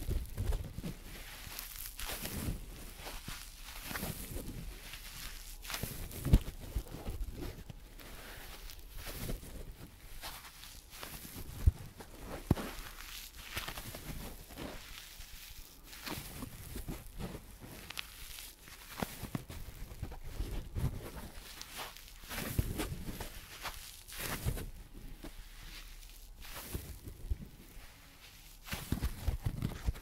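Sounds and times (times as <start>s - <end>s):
hands rubbing a sponge: 0.0s - 30.0s.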